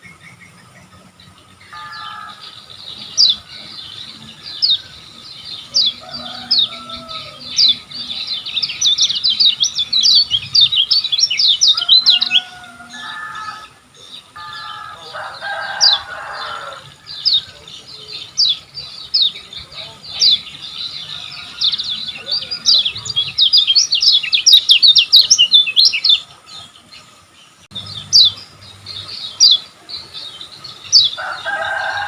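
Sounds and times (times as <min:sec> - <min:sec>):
bird singing high chirps: 0:00.0 - 0:32.0.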